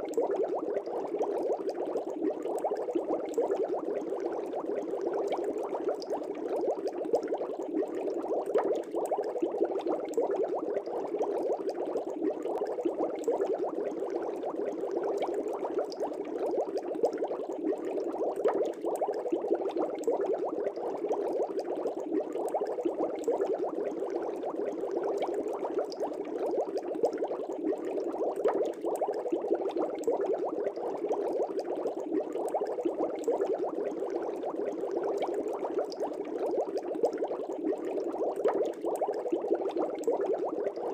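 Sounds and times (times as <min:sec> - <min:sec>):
aquarium air bubbles bubbling: 0:00.0 - 0:40.9.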